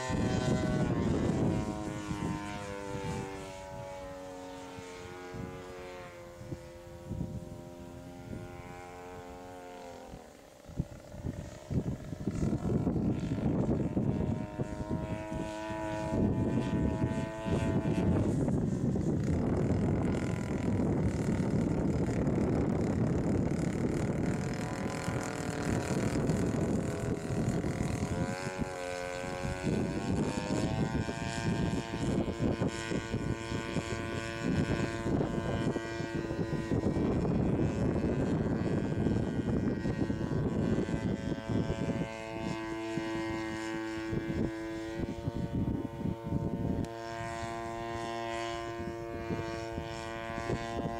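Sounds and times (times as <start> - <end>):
aircraft engine running: 0.0 - 50.9.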